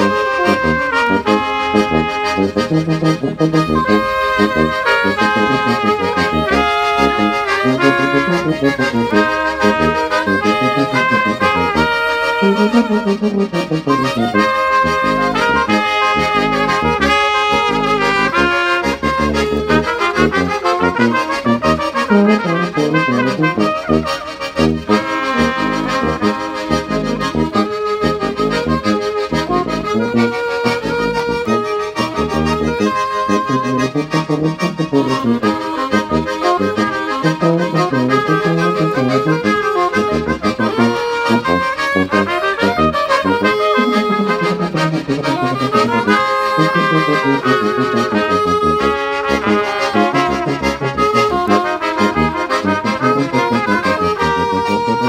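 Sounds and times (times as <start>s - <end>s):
accordion: 0.0s - 55.0s
saxophone: 0.0s - 55.0s
trumpet: 0.0s - 55.0s
tuba: 0.0s - 55.0s.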